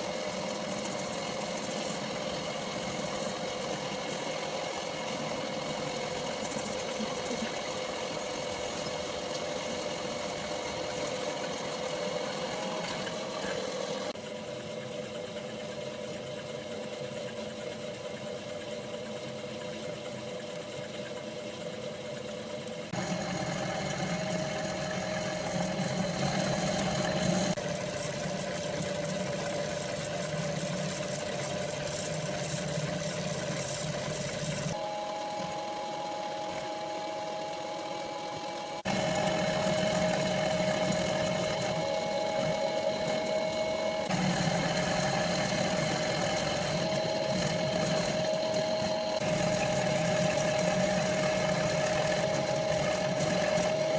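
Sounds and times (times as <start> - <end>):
milling machine whine and grinding: 0.0 - 53.9.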